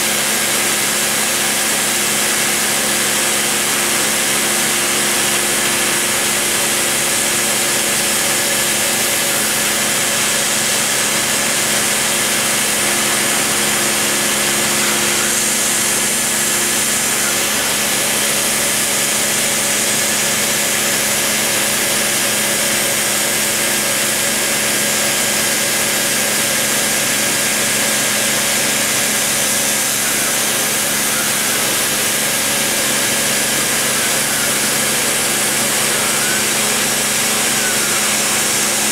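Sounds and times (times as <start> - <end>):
rotary tool whining: 0.2 - 21.2, 26.4 - 38.9.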